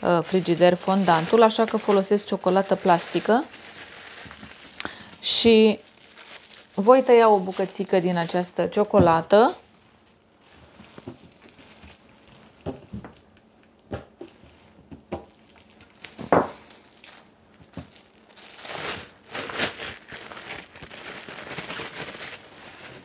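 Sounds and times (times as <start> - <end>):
plastic wrap crinkling: 0.0 - 23.0.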